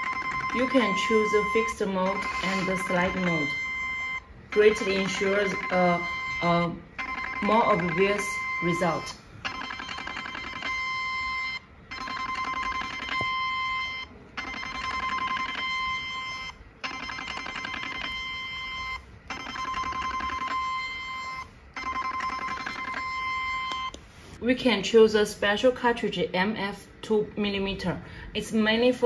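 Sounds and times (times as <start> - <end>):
steady beep: 0.0 - 23.9.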